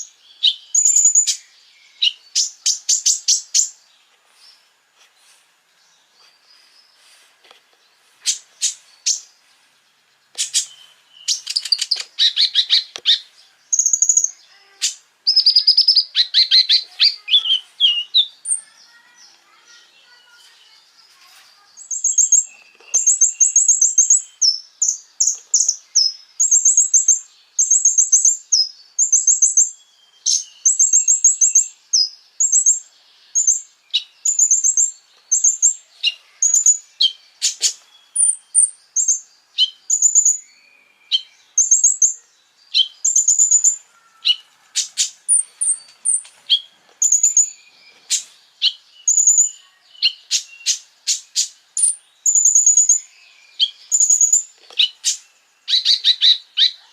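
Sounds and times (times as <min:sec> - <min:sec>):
songbird chips and trills: 0:00.0 - 0:03.8, 0:06.2 - 0:56.9.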